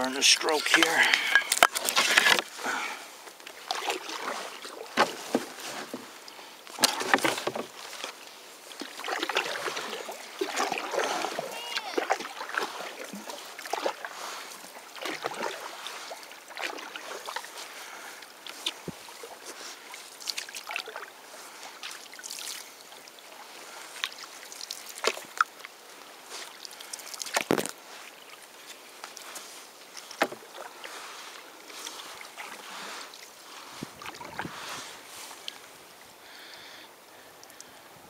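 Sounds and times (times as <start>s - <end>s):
water splashing against canoe: 0.0s - 36.1s.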